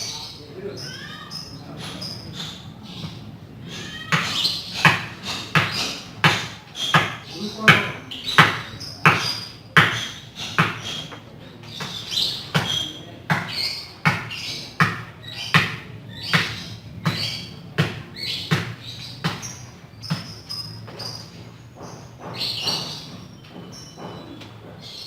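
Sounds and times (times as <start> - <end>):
sharp knocks: 3.9 - 25.0.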